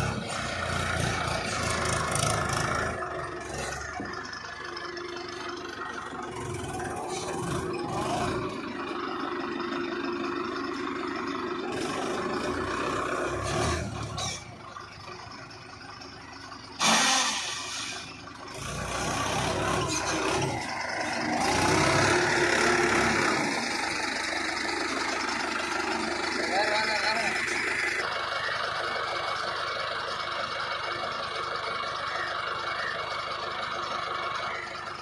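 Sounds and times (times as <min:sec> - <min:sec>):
diesel tractor engine revving: 0:00.0 - 0:35.0.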